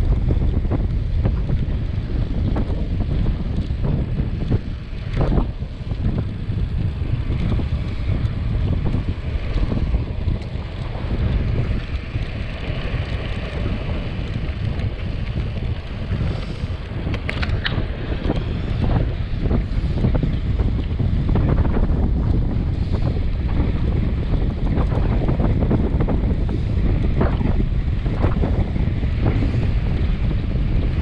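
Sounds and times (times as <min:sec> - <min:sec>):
tyre road noise: 0:00.0 - 0:31.0
wind buffeting microphone: 0:00.0 - 0:31.0.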